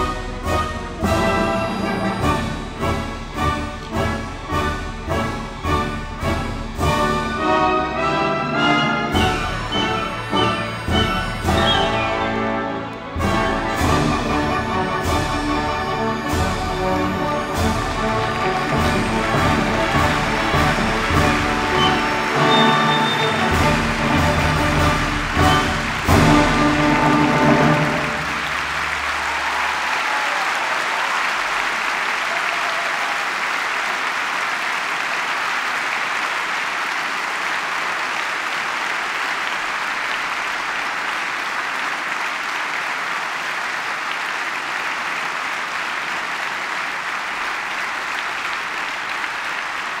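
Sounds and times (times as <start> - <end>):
audience applauding: 0.0 - 50.0.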